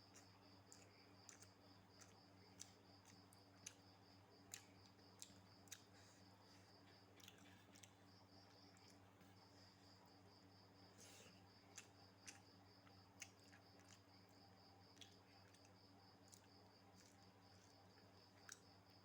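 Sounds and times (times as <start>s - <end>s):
cricket chirping: 0.0s - 19.0s
low steady hum: 0.0s - 19.0s.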